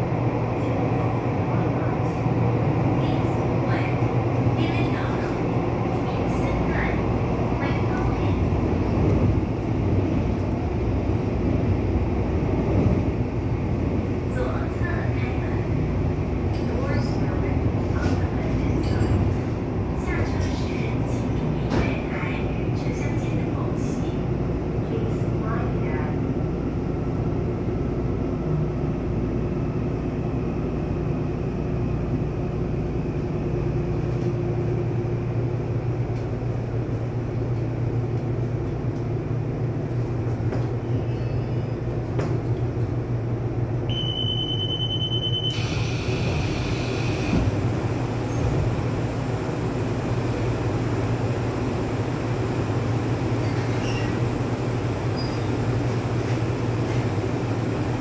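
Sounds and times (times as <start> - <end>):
train interior low hum: 0.0 - 58.0.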